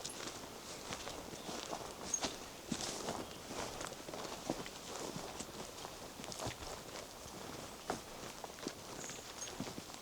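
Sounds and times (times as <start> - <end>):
footsteps on forest path: 0.0 - 10.0.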